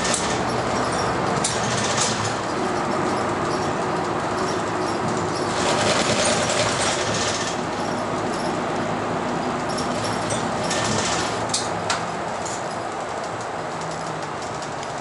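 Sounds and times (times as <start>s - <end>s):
body rattle: 0.0s - 15.0s
bus engine and road noise: 0.0s - 15.0s.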